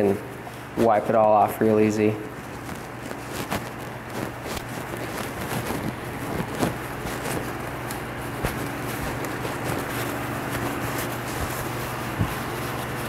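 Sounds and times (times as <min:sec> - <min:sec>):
rag rustling: 0:02.2 - 0:13.0.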